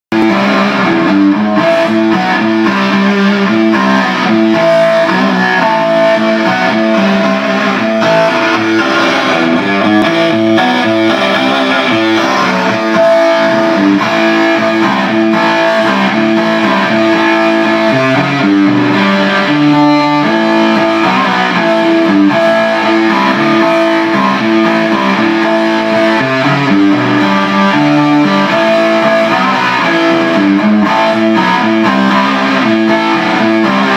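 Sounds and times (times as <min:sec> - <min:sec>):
plucked guitar notes: 0:00.1 - 0:33.9.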